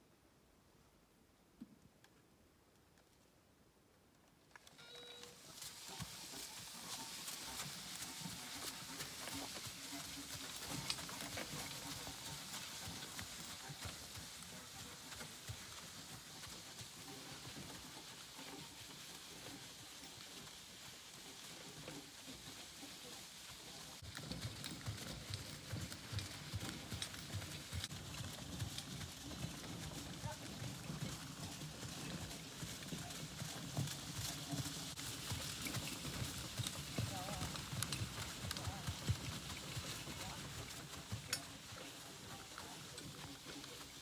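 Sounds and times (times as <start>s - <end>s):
horse hoofbeats on sand: 4.8s - 44.0s.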